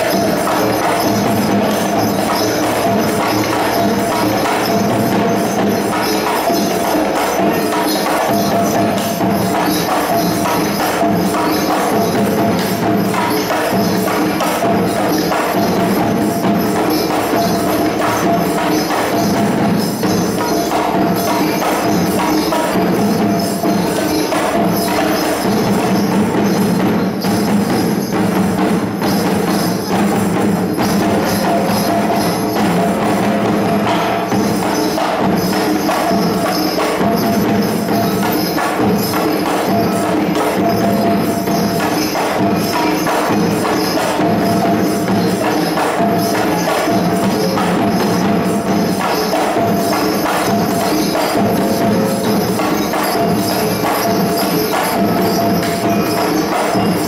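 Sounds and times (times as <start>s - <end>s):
drums: 0.0s - 57.0s
metallic ringing percussion: 0.0s - 57.0s.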